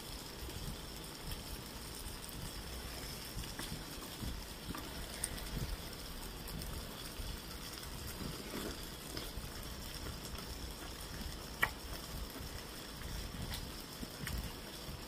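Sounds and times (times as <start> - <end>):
steady background hiss: 0.0 - 15.0
woman chewing food: 2.6 - 15.0.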